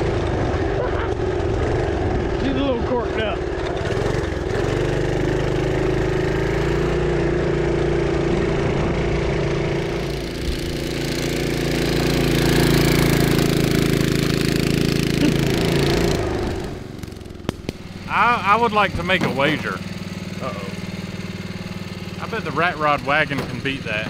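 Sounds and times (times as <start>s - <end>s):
small engine running under load: 0.0s - 24.0s.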